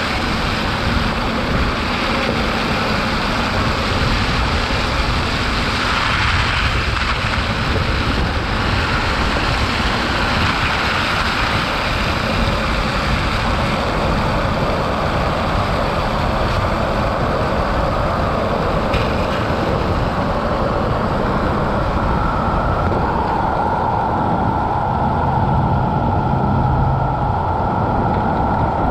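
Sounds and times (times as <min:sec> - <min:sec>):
low hum: 0:00.0 - 0:28.9
tyre road noise: 0:00.0 - 0:28.9
wind noise: 0:00.0 - 0:28.9.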